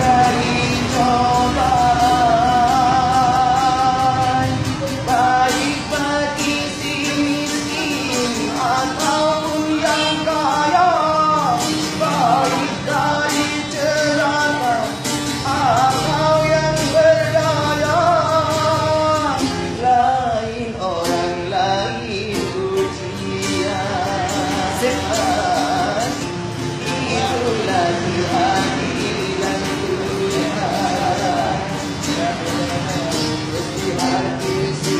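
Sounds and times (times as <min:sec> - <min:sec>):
guitar accompaniment: 0:00.0 - 0:34.9
person singing: 0:00.0 - 0:34.9.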